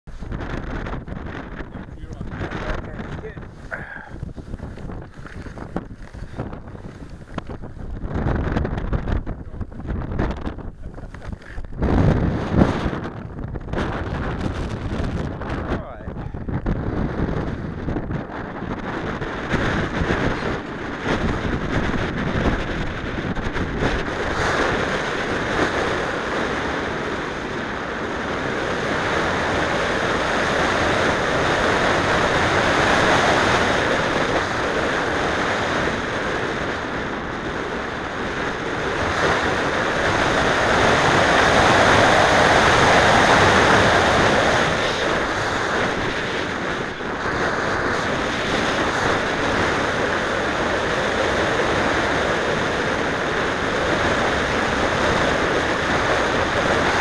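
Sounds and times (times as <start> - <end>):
wind roar over microphone: 0.1 - 57.0.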